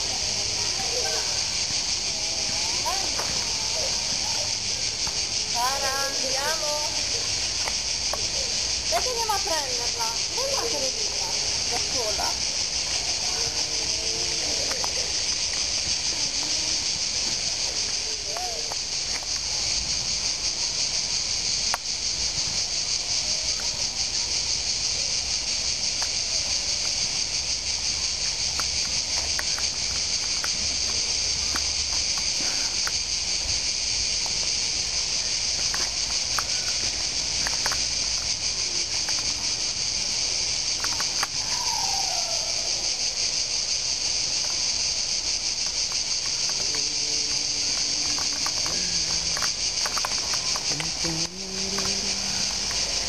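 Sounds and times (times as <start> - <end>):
insect chorus shrilling: 0.0 - 53.0.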